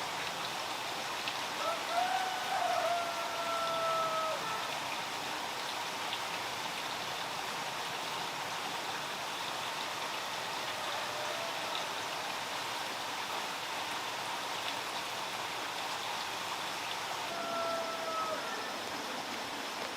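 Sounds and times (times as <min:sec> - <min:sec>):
steady water noise: 0:00.0 - 0:19.9.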